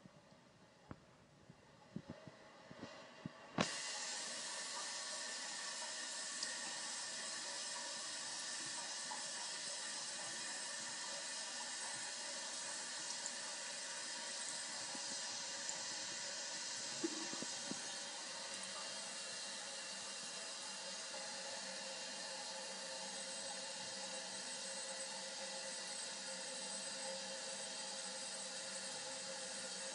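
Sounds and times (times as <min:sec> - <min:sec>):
tap water running into sink: 0:03.6 - 0:29.9.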